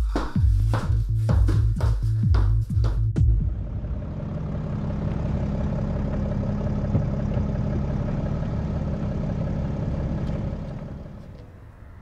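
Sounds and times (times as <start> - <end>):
car engine idling: 2.2 - 12.0.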